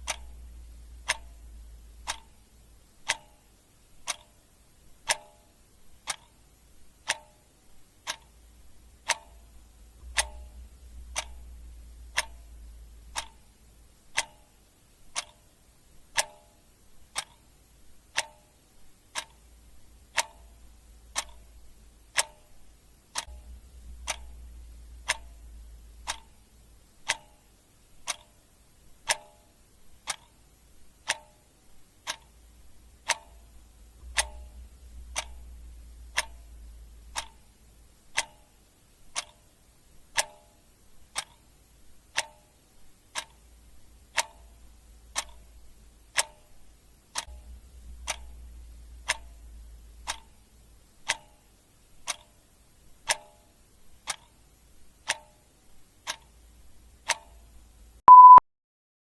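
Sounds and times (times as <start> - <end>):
clock ticking: 0.0 - 58.4.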